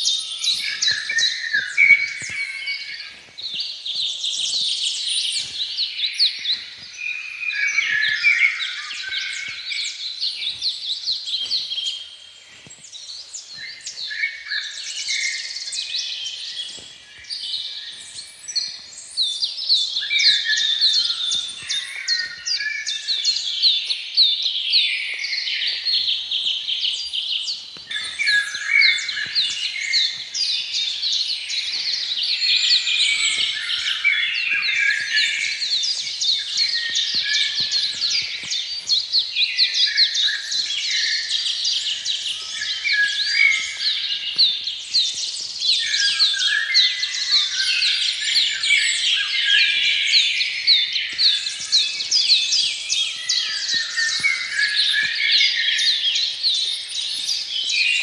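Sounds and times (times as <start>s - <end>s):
chorus of birds singing: 0.0s - 58.0s.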